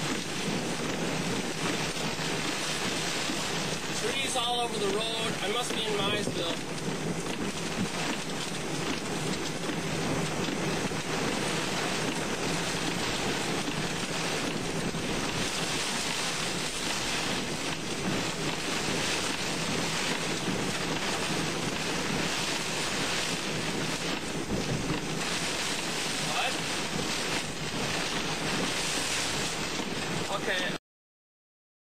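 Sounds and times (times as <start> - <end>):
heavy rain on a car: 0.0 - 30.8
strong wind on a car: 0.0 - 30.8.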